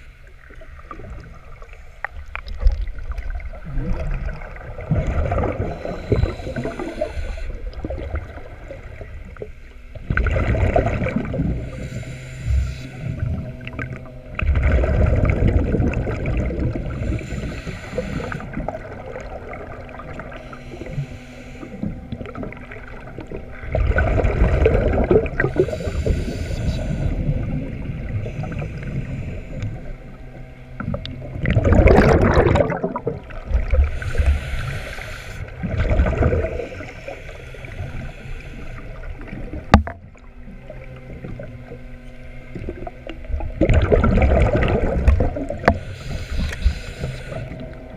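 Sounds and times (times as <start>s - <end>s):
quiet breathing through regulator: 0.0s - 47.9s
scuba exhaled bubbles gurgling: 0.0s - 47.9s.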